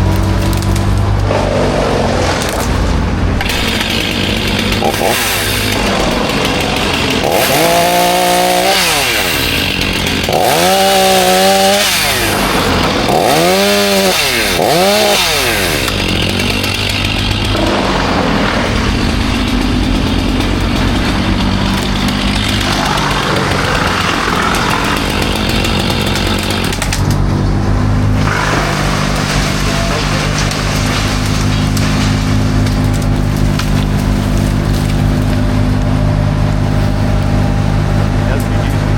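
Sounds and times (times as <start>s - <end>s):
chainsaw revving: 0.0s - 27.2s, 28.0s - 36.8s.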